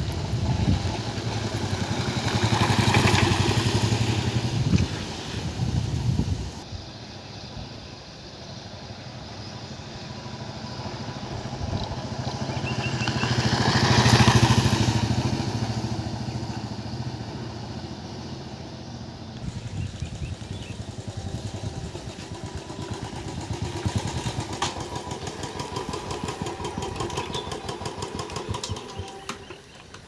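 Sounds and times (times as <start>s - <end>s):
motorcycle engine running: 0.0s - 6.6s, 9.9s - 30.0s
road noise: 0.0s - 30.0s.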